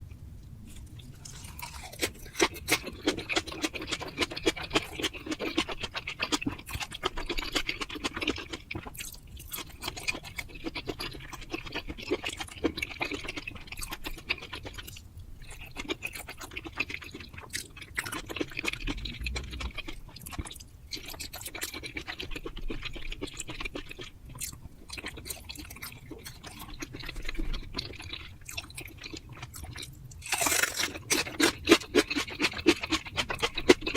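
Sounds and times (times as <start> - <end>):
person chewing: 0.7 - 33.9.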